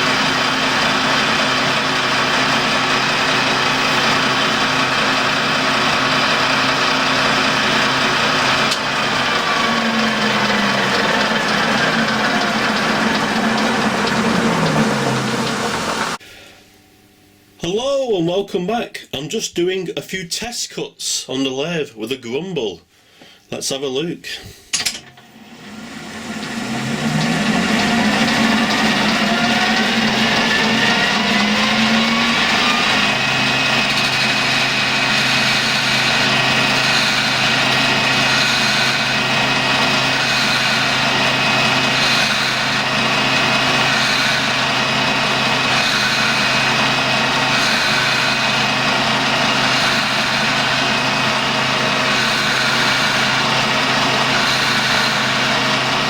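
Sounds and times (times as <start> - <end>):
lathe motor whining: 0.0 - 16.2, 25.2 - 56.0.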